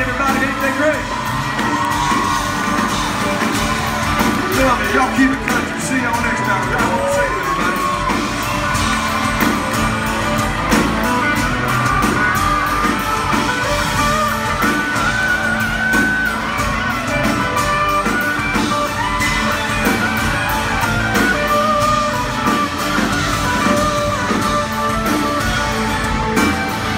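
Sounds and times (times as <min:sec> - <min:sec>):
electric and acoustic guitars: 0:00.0 - 0:26.9
steady drum beat: 0:00.0 - 0:26.9.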